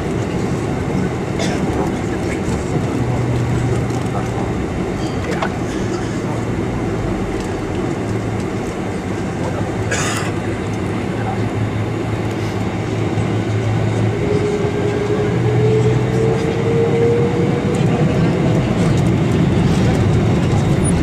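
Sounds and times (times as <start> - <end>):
airliner cabin rumble and hum: 0.0 - 21.0
rising engine whine: 0.0 - 21.0.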